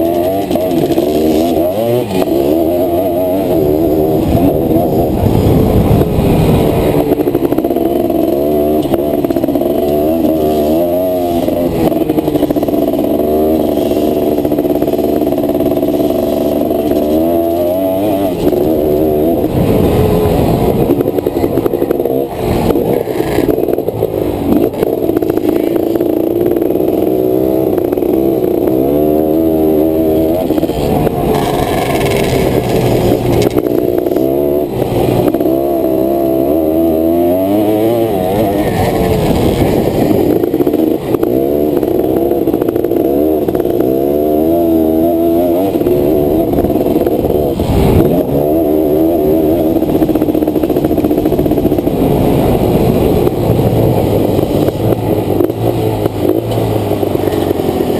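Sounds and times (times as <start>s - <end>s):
two-stroke engine revving: 0.0s - 57.9s.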